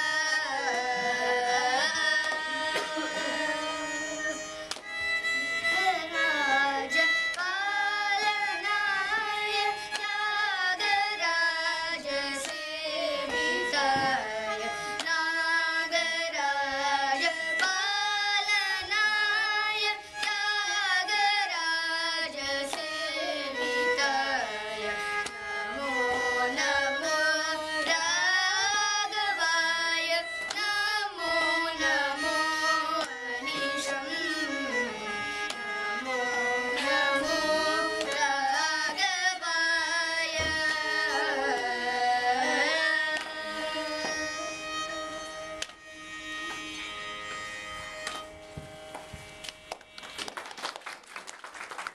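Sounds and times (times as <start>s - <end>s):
children singing: 0.0s - 4.8s, 5.4s - 45.6s
violin: 0.0s - 50.6s.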